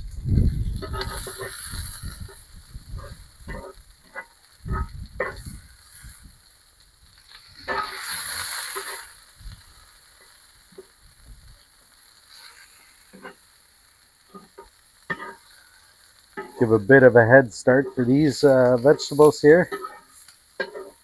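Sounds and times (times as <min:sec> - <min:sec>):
vegetables sizzling on a griddle: 0:00.0 - 0:21.0.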